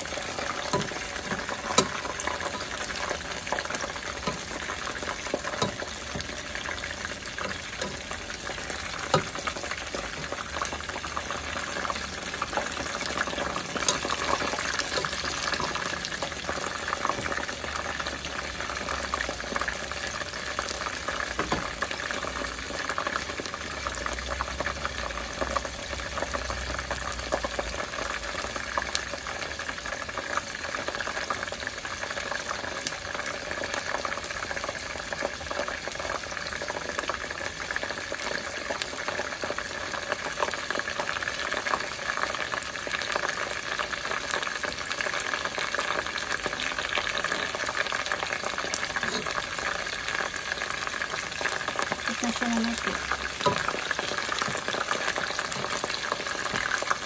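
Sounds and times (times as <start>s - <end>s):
food deep-frying in oil: 0.0s - 57.0s.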